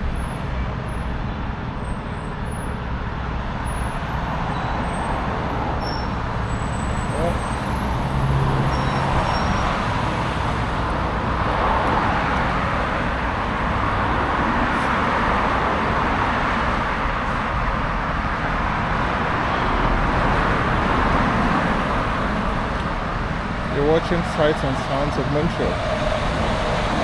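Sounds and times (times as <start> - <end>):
city street traffic: 0.0 - 27.0.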